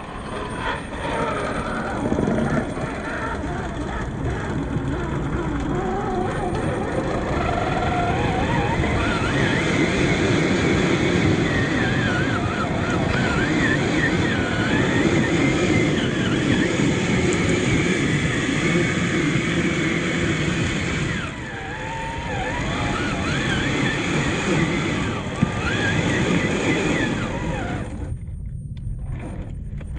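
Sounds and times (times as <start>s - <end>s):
toy car drivetrain whining: 0.0s - 28.2s
wheels rumbling on rough ground: 0.0s - 29.9s.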